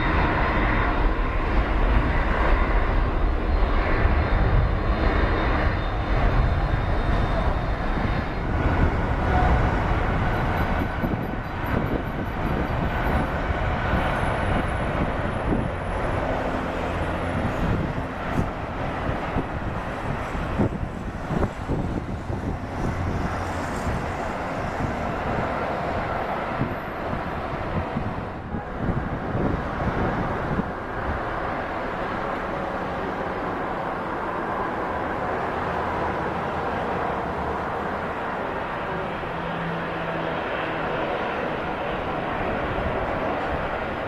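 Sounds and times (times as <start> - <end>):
wind buffeting microphone: 0.0 - 35.6
jet airliner engines: 0.0 - 44.0.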